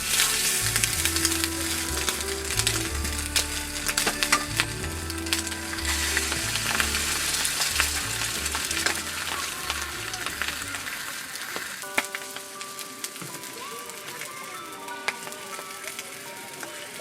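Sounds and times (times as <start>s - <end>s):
background music: 0.0s - 17.0s
food sizzling in a pan: 0.0s - 17.0s.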